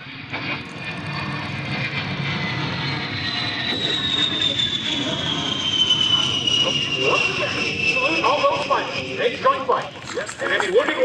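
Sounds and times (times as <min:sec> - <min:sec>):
jet turbofans whining: 0:00.0 - 0:11.0.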